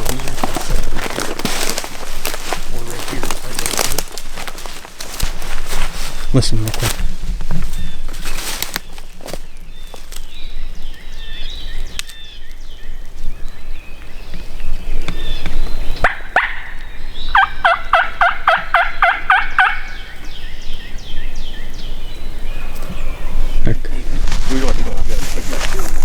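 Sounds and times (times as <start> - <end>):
faint songbirds chirping: 0.0 - 26.0
wild turkey calling: 0.0 - 26.0.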